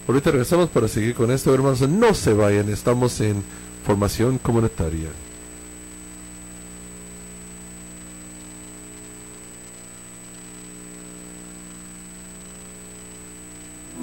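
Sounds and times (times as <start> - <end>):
electrical hum and hiss: 0.0 - 14.0
thin high whine: 0.0 - 14.0.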